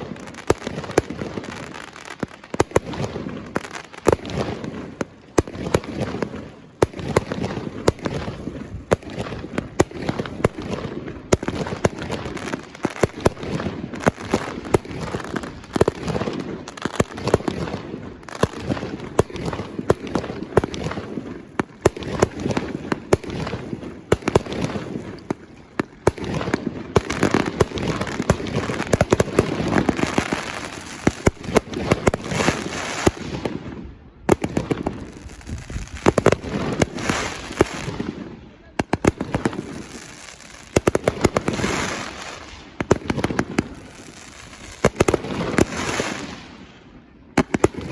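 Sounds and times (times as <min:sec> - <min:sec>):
fireworks bursting with sharp bangs: 0:00.0 - 0:47.9
fireworks crackling: 0:00.0 - 0:47.9.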